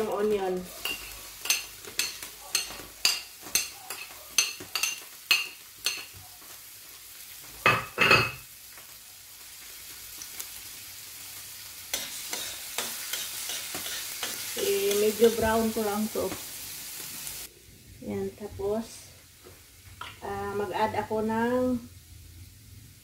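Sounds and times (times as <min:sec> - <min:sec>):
onion and garlic sizzling in oil: 0:00.0 - 0:23.0.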